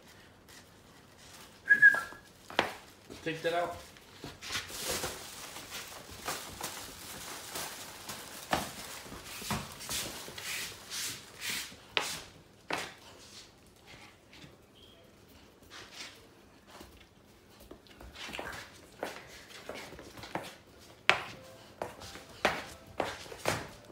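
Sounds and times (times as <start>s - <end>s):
puppy scuffling: 0.0s - 23.9s.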